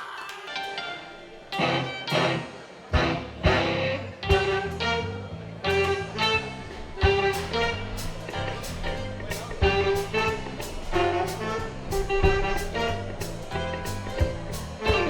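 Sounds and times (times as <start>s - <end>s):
jazz fusion music: 0.4s - 15.0s.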